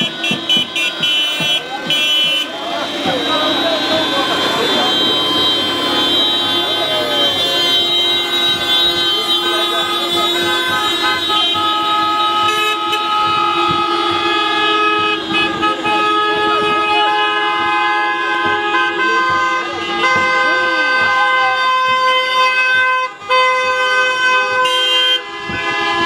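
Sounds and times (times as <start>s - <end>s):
car horns honking: 0.0s - 26.0s.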